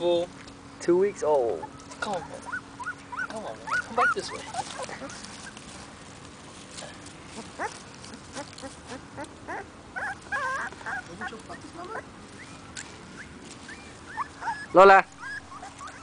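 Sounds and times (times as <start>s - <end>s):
puppies whimpering: 1.4s - 5.8s, 7.3s - 16.0s.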